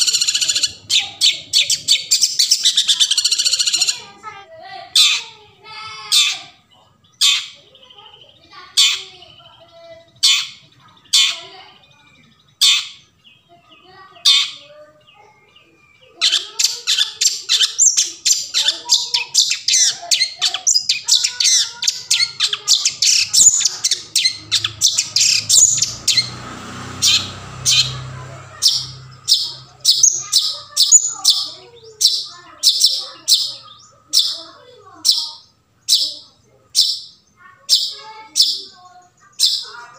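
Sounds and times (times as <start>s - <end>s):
bird harsh scratchy calls: 0.0s - 11.9s, 12.5s - 39.9s
bird fast chattering song: 0.0s - 39.9s.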